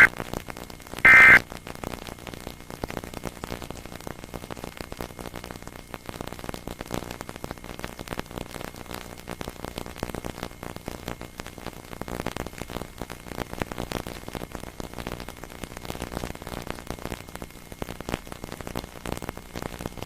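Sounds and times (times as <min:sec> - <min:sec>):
crackling hiss with fine clicks: 0:00.0 - 0:20.0.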